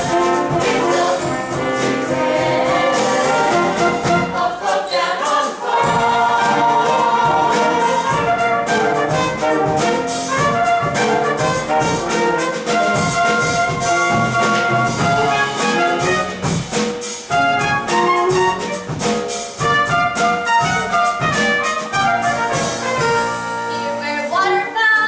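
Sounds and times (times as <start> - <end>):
brass-led band music: 0.0 - 24.4
percussion keeping a beat: 0.0 - 25.0.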